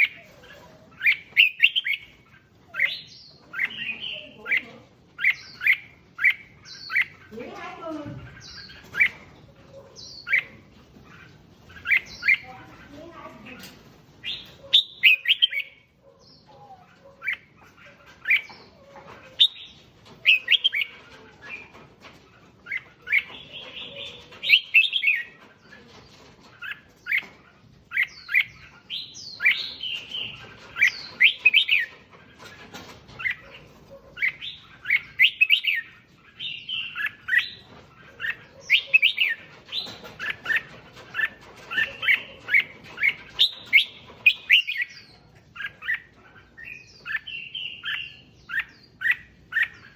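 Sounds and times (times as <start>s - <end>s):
bird singing chirping phrases: 0.0s - 49.9s.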